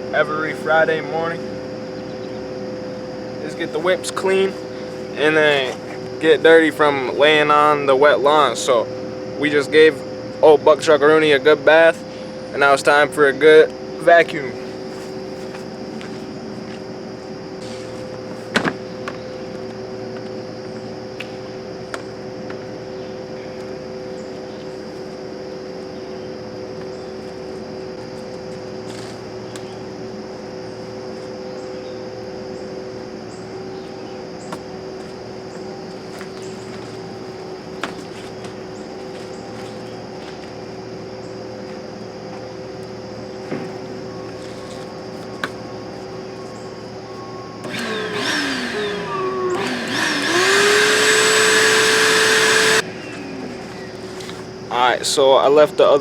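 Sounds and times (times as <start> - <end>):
vacuum cleaner motor droning: 0.0 - 54.7.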